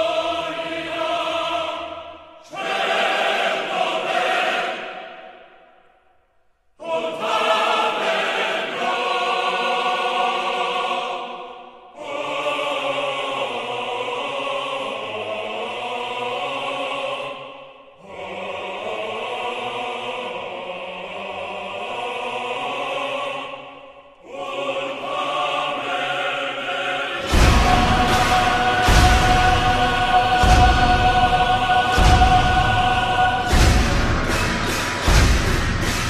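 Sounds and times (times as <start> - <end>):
choir singing sustained chords: 0.0 - 6.1, 6.8 - 36.0.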